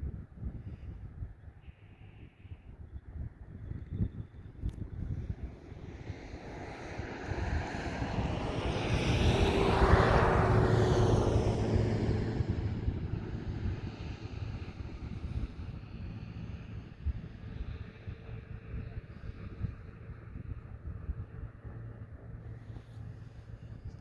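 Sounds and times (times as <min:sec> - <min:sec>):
wind buffeting microphone: 0:02.2 - 0:24.0
aircraft passing overhead: 0:04.0 - 0:24.0.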